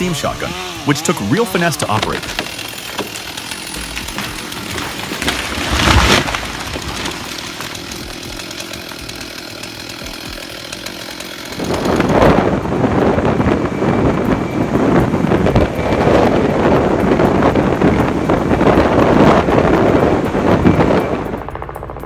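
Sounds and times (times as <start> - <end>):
power saw cutting wood: 0.0 - 21.7.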